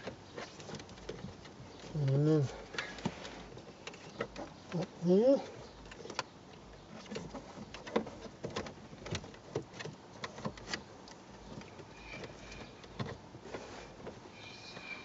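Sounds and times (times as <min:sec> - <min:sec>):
wiring rustling: 0:00.0 - 0:15.0.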